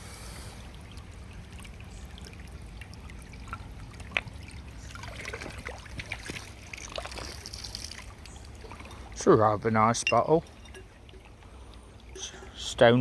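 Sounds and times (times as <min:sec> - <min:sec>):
stream water splashing: 0:00.0 - 0:13.0.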